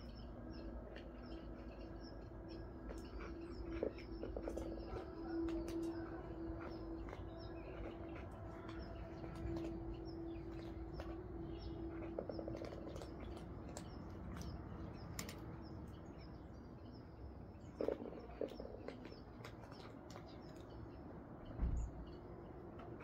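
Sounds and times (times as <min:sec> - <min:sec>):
cats eating from a bowl: 0:00.0 - 0:23.0
small birds chirping: 0:00.0 - 0:23.0.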